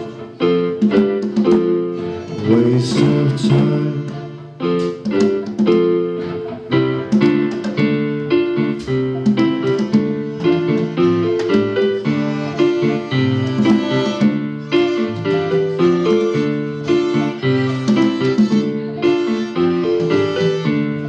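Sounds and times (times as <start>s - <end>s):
electric keyboard chords: 0.0s - 21.0s.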